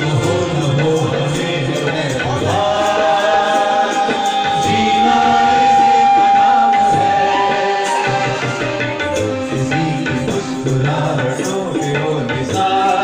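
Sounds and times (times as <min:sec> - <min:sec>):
instrumental accompaniment: 0:00.0 - 0:13.0
man singing into microphone: 0:00.0 - 0:13.0
tabla: 0:00.0 - 0:13.0.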